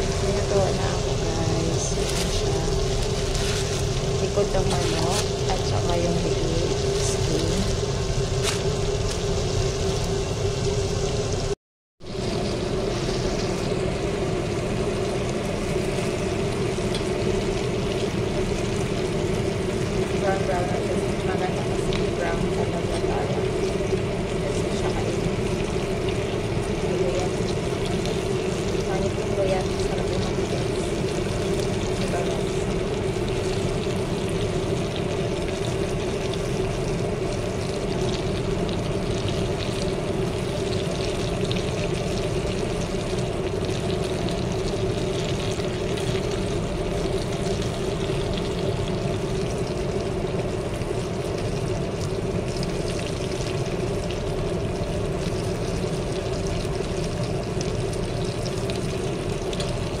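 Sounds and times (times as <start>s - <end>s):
constant low hum: 0.0s - 60.0s
oil sizzling and bubbling: 0.0s - 60.0s.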